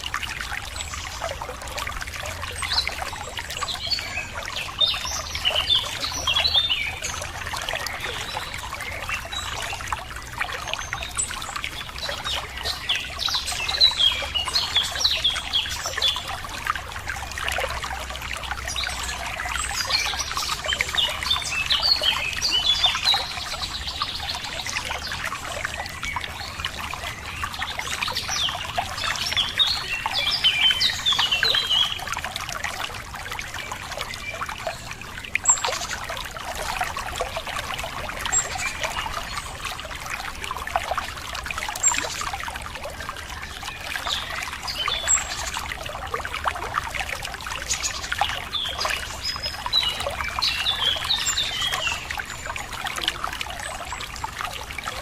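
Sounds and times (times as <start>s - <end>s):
songbirds chirping: 0.0s - 55.0s
stream trickling: 0.0s - 55.0s.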